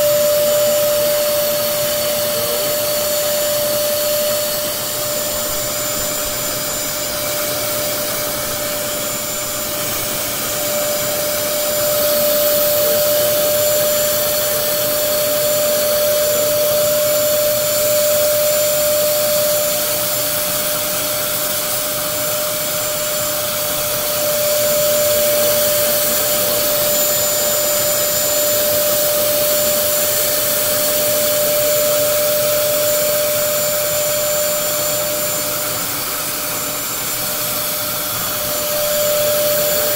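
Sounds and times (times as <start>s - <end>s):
carpet cleaner motor whine: 0.0s - 39.9s.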